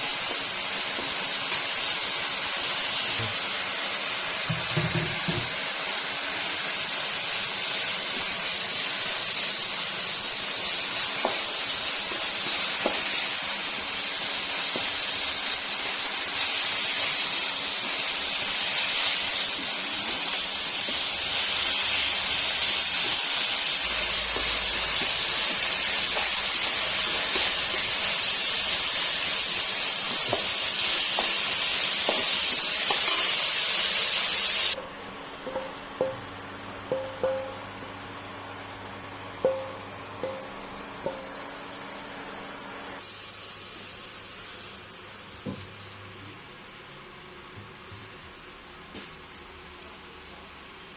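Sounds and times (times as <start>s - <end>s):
food sizzling in a pan: 0.0s - 37.3s, 39.4s - 45.2s.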